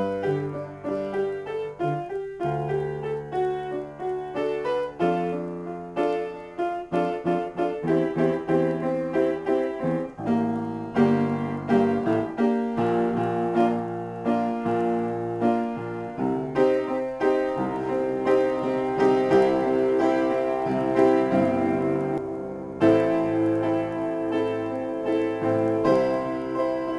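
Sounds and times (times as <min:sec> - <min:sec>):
upright piano improvisation: 0:00.0 - 0:26.9.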